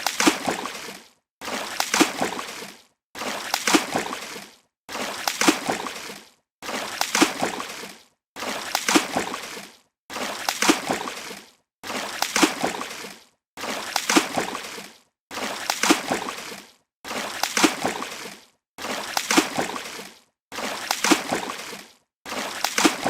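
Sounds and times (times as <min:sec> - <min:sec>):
water splash: 0:00.0 - 0:23.0.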